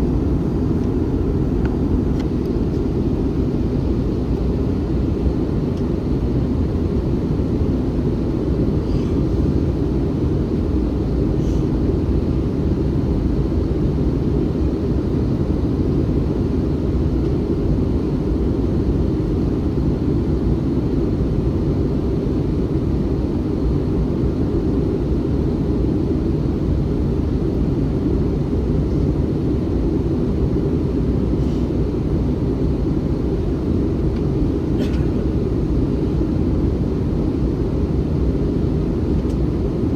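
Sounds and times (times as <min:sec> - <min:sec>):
airliner cabin rumble: 0:00.0 - 0:17.8, 0:23.4 - 0:39.9.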